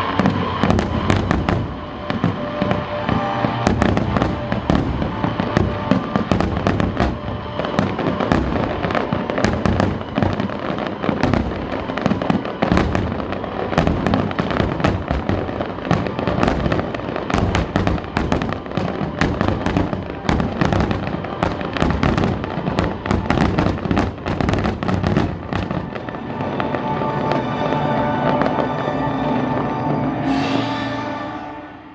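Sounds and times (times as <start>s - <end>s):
fireworks bursting: 0.0s - 31.3s.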